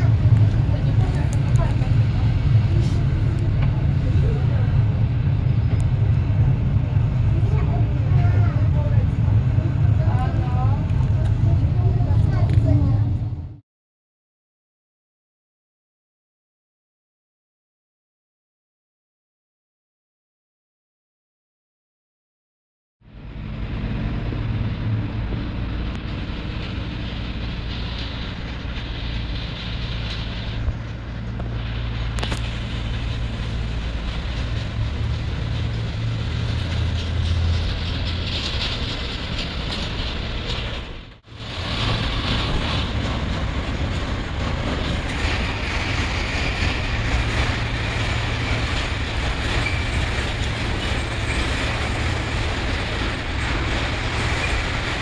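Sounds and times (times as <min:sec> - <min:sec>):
freight train rumbling on rails: 0:00.0 - 0:13.6, 0:23.0 - 0:55.0.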